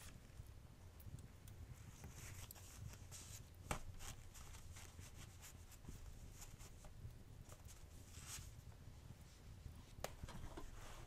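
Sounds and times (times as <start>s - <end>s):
fireplace crackling and popping: 0.0s - 11.0s
soft rustling: 1.0s - 11.0s.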